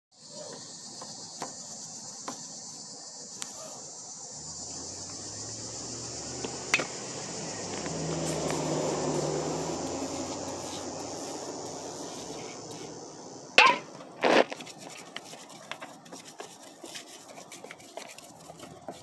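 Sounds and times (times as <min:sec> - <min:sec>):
crickets chirping: 0:00.1 - 0:19.0.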